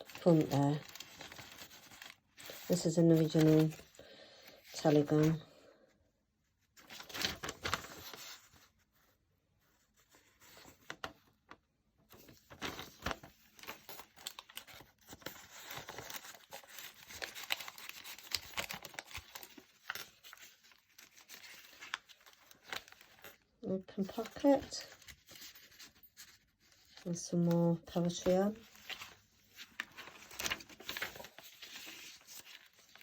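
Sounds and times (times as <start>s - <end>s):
paper rustling and crinkling: 0.0s - 5.4s, 6.6s - 23.4s, 24.0s - 33.0s.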